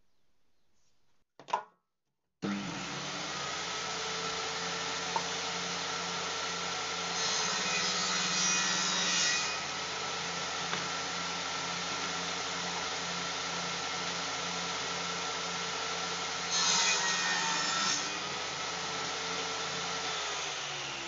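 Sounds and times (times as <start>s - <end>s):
table saw cutting wood: 2.4s - 21.0s.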